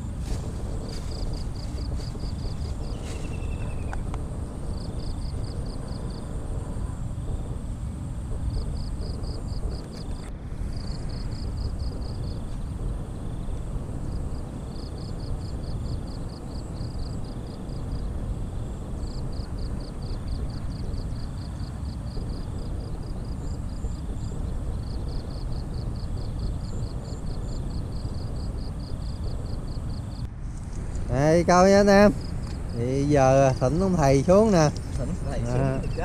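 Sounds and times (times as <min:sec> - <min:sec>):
insect chirping in pulses: 0:00.0 - 0:36.0
low rumbling noise: 0:00.0 - 0:36.0.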